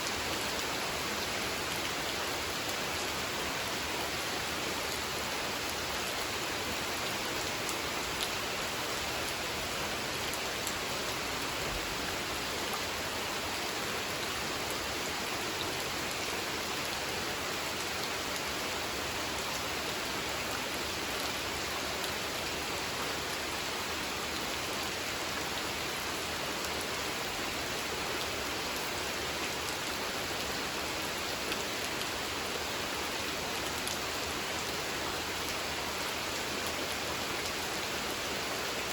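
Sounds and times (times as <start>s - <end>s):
rain falling on water: 0.0s - 38.9s.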